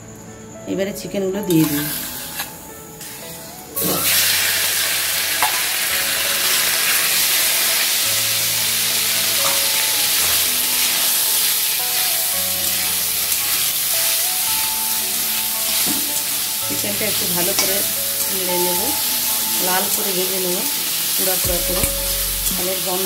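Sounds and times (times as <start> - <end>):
chicken sizzling in hot oil: 1.6 - 23.0.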